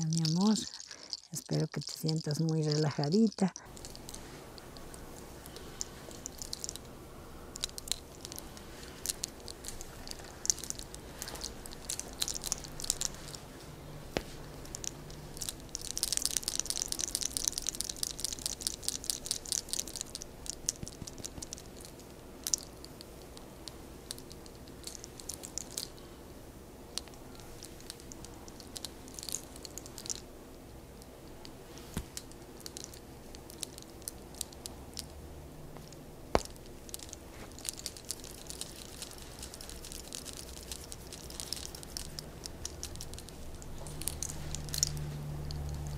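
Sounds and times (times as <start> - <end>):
hair crackling and rustling: 0.0 - 26.2, 26.8 - 45.9.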